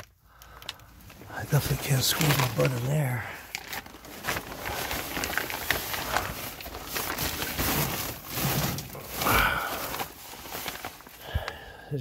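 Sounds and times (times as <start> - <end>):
plastic sheet crinkling under crawling: 0.0 - 11.6.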